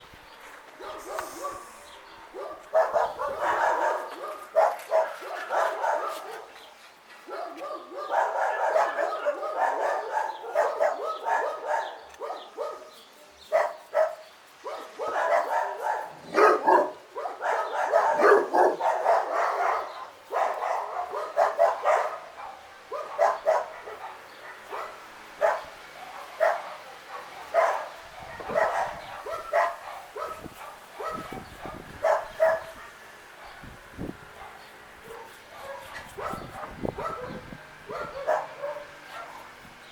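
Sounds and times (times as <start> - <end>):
dog barking and yipping: 0.8 - 33.7, 34.3 - 39.6.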